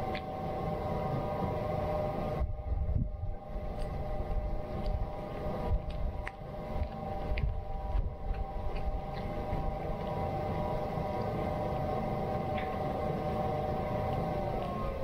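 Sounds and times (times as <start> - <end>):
steady droning tone: 0.0 - 15.0
wind rumble on microphone: 1.2 - 15.0.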